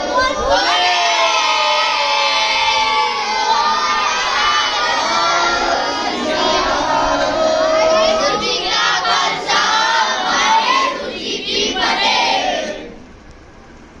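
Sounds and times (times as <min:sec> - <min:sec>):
children shouting and chanting: 0:00.0 - 0:12.9.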